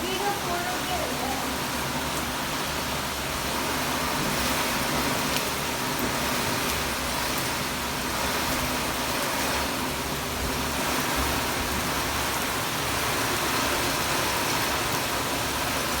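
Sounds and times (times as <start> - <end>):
heavy rain in strong wind: 0.0 - 16.0.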